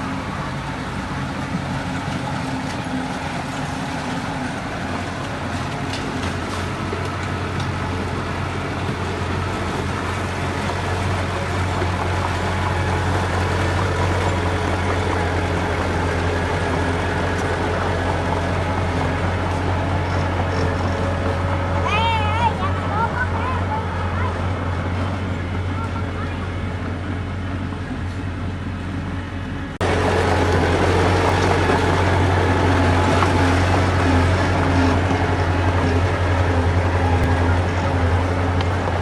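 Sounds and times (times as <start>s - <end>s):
diesel engine low hum: 0.0s - 39.0s.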